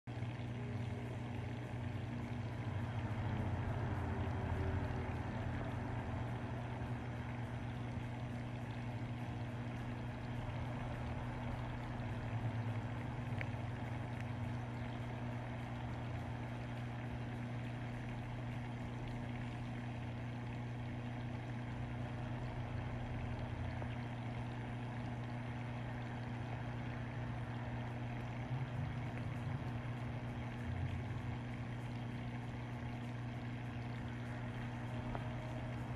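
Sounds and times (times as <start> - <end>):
aquarium pumps humming: 0.1 - 35.9
circulating water: 0.1 - 35.9.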